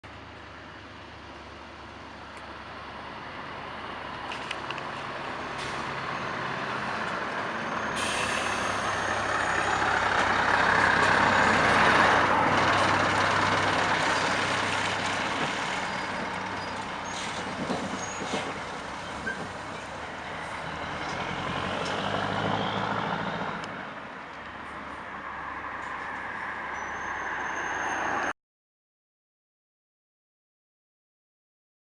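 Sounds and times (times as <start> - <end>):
diesel truck driving past: 0.1 - 28.3.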